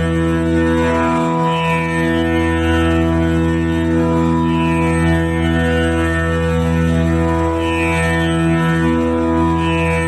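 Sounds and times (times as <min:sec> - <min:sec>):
tanpura drone: 0:00.0 - 0:10.0.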